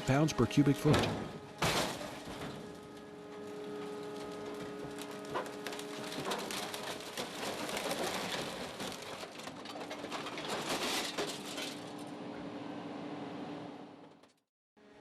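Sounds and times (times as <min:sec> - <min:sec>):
metal crackling and creaking: 0:00.0 - 0:12.2
machine power unit humming: 0:00.0 - 0:13.4.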